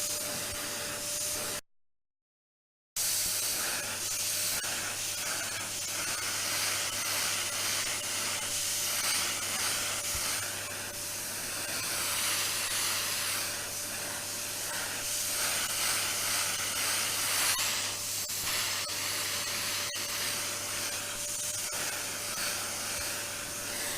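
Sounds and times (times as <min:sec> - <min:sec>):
vacuum cleaner running: 0:00.0 - 0:01.6, 0:03.0 - 0:23.9.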